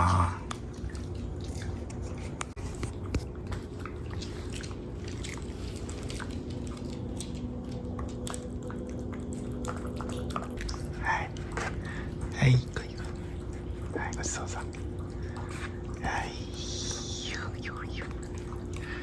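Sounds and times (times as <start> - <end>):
steady low hum: 0.0 - 19.0
dog chewing with mouth clicks: 0.4 - 19.0.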